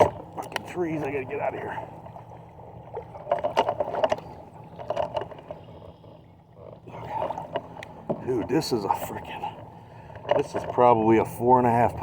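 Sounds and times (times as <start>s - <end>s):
boat motor humming: 0.0s - 12.0s
knocks and rattles on boat: 0.0s - 12.0s.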